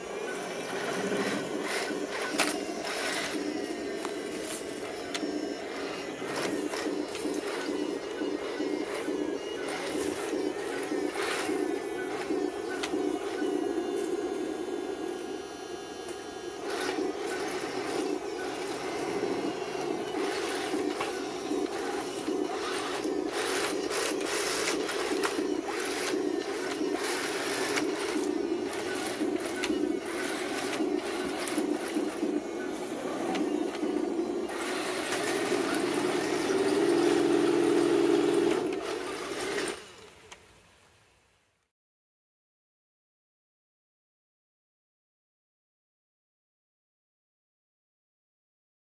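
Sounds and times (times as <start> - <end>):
toy tank electric drive running: 0.0 - 40.4.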